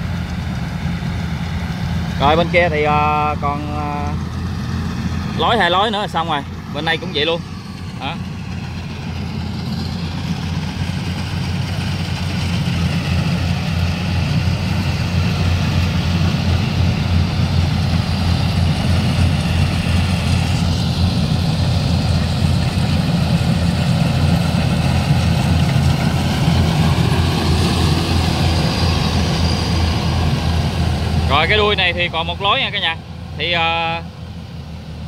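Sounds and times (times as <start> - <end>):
combine harvester diesel engine: 0.0 - 35.0.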